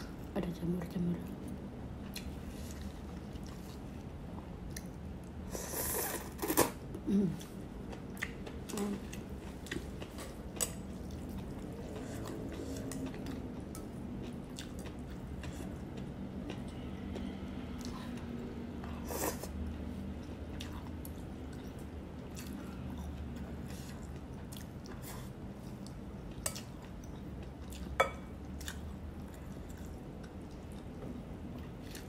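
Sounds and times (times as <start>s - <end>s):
chewing with small clicks: 1.4s - 5.4s, 7.4s - 19.0s, 19.7s - 32.0s.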